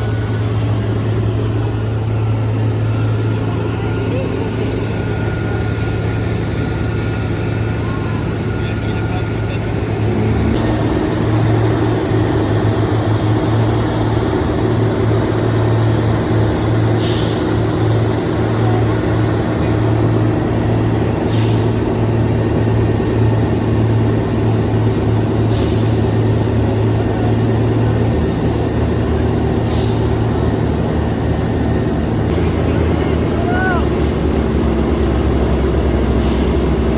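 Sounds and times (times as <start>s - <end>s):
heavy vehicle engine droning: 0.0s - 36.9s.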